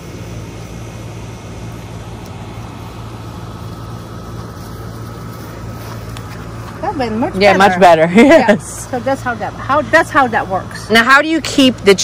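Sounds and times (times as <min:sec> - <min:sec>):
background hiss: 0:00.0 - 0:11.9
low mechanical hum: 0:00.0 - 0:12.0.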